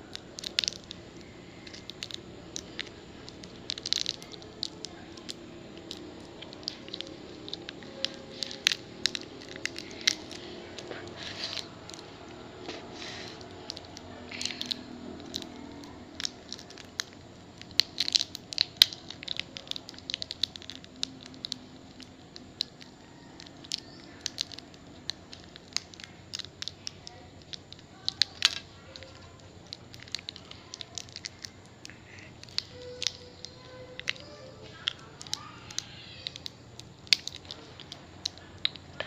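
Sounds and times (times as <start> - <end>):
plastic candy wrapper crinkling: 0.0 - 39.0.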